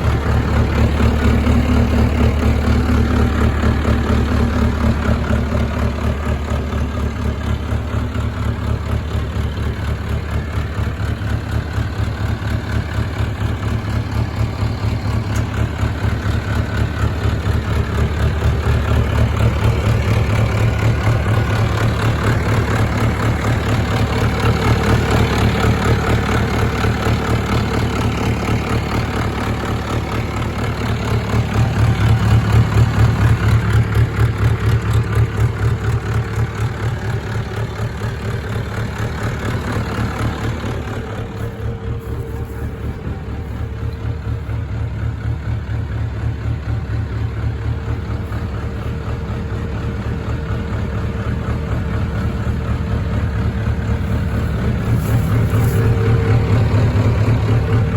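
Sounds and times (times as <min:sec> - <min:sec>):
tractor diesel engine idling: 0:00.0 - 0:57.9.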